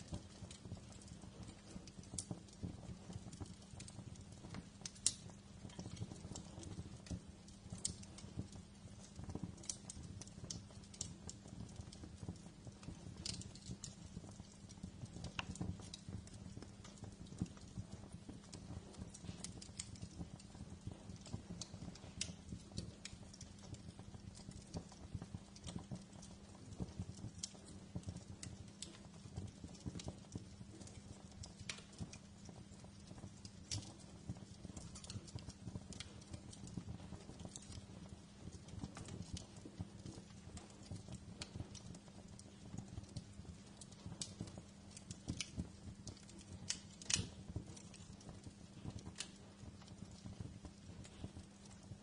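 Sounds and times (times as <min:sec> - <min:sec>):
low rumble of burning logs: 0:00.0 - 0:52.0
wood fire crackling and popping: 0:00.0 - 0:52.0.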